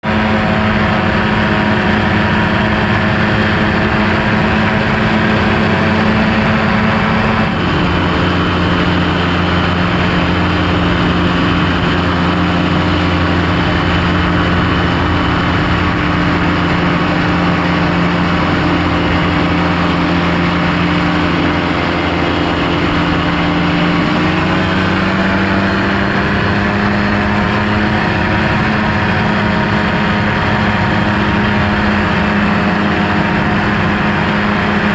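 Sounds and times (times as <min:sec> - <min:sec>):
light airplane engine and propeller: 0:00.0 - 0:34.9.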